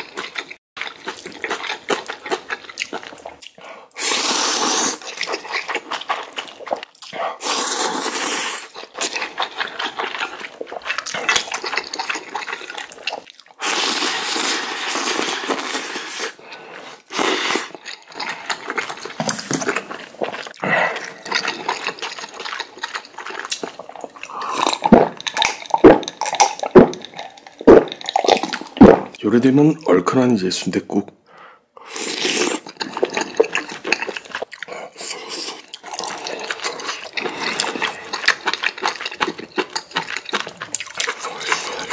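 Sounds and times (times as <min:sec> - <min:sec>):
wet chewing: 0:00.0 - 0:29.2, 0:32.0 - 0:41.9
person slurping noodles: 0:03.6 - 0:29.2, 0:31.8 - 0:41.9.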